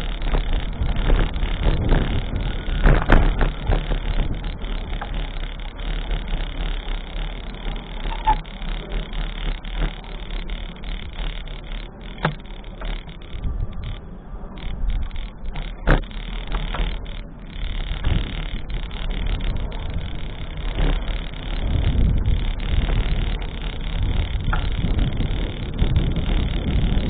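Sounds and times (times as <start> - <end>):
traffic noise: 0.0 - 27.0
wind: 0.0 - 27.0.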